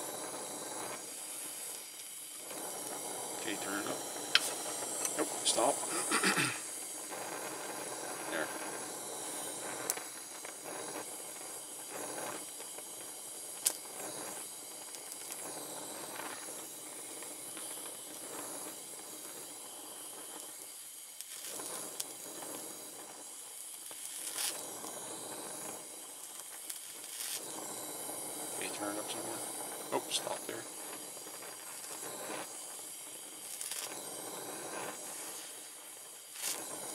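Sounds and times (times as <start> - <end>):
torch flame hissing: 0.0 - 36.9.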